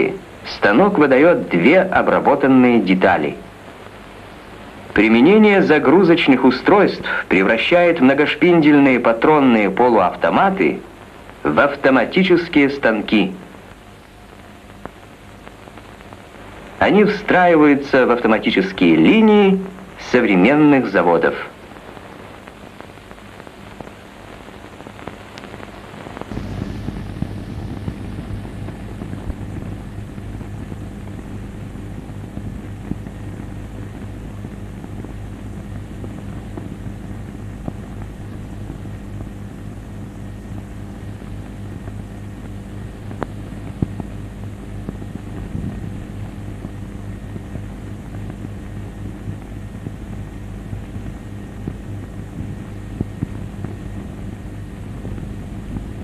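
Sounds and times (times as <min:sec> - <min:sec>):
film soundtrack hiss: 0:00.0 - 0:56.0
steady low hum: 0:00.0 - 0:56.0.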